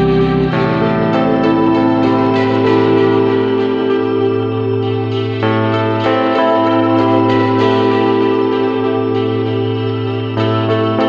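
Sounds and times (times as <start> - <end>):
ambient guitar-like music: 0.0 - 11.0.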